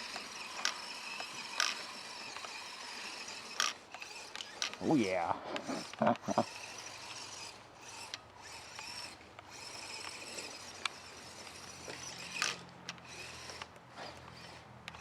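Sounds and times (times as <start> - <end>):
sharp clicks from chassis: 0.0 - 4.9, 5.5 - 15.0
electric motor whirring: 0.0 - 15.0.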